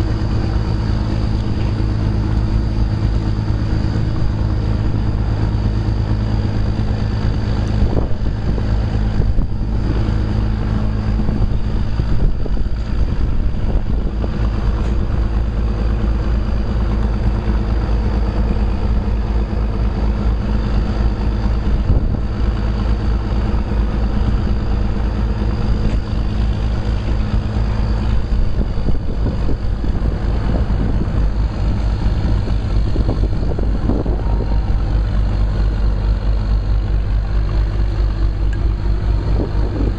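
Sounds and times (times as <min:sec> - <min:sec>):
locomotive engine drone: 0:00.0 - 0:39.9.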